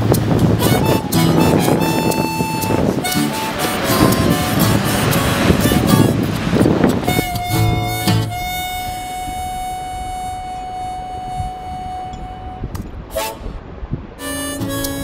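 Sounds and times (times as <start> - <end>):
high held music note: 0.0 - 13.6, 14.2 - 15.0
short music notes: 0.0 - 13.6, 14.2 - 15.0.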